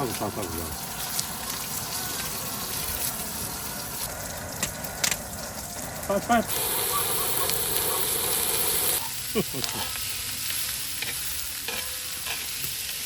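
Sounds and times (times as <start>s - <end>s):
pork sizzling in a pan: 0.0s - 13.0s.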